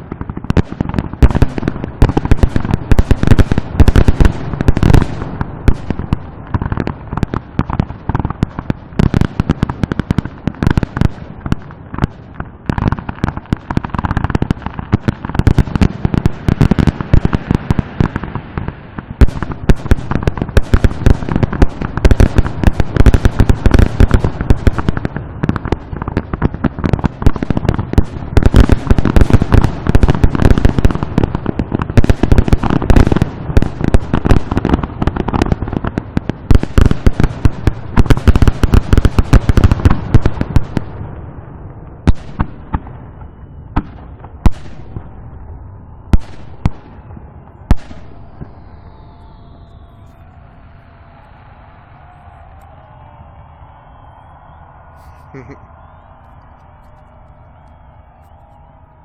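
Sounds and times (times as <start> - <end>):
distant fireworks bursts and crackle: 0.0 - 59.0.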